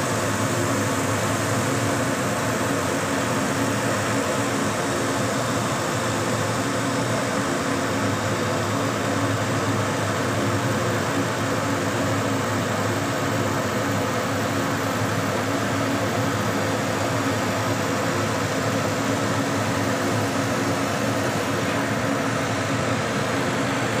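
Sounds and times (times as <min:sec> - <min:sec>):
laser cutting machine humming: 0:00.0 - 0:24.0.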